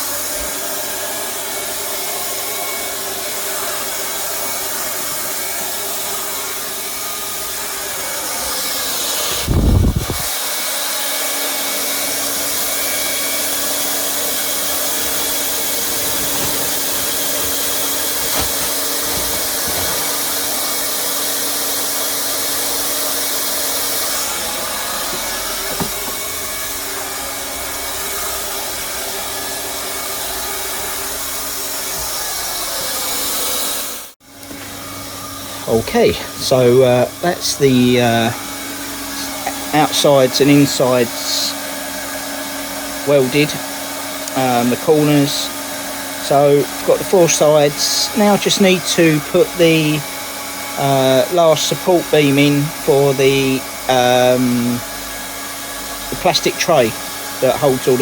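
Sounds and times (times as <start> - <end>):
hot-air welding gun blowing: 0.0 - 58.0.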